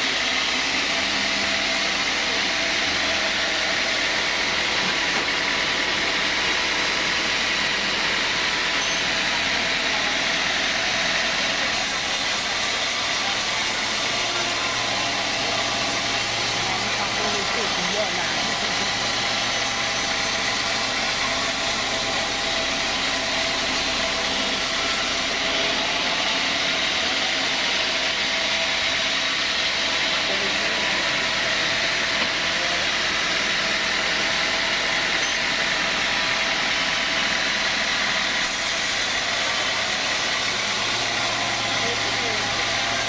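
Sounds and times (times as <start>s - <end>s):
sawmill machinery running: 0.0s - 43.0s.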